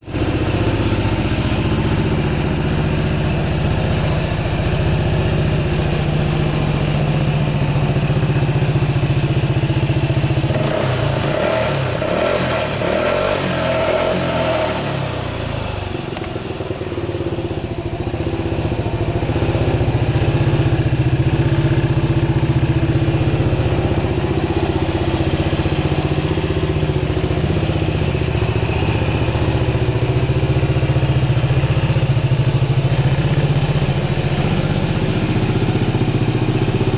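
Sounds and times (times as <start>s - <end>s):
scooter engine idling: 0.0s - 36.9s.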